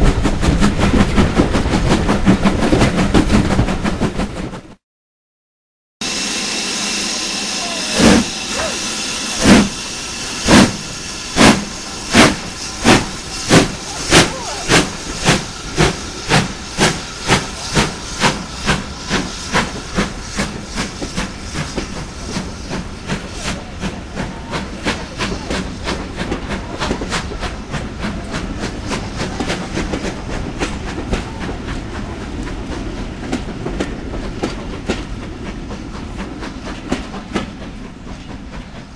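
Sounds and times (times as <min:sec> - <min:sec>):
steam hissing: 0:06.0 - 0:38.9
steam locomotive exhaust chuffs: 0:06.0 - 0:38.9.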